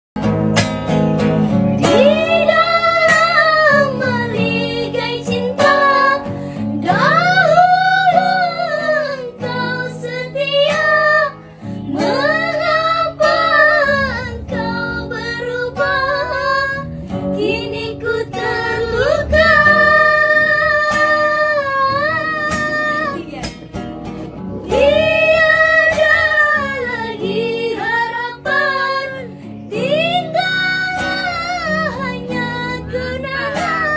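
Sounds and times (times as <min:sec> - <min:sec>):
guitar accompaniment: 0:00.2 - 0:33.9
high voice singing a rock ballad: 0:01.8 - 0:23.4, 0:24.6 - 0:33.9.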